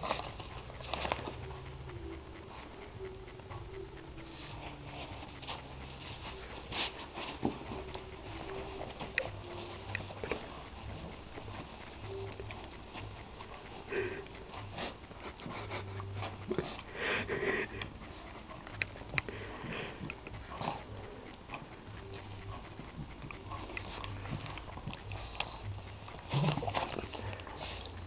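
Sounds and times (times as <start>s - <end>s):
dog sniffing and snorting: 0.0s - 28.0s.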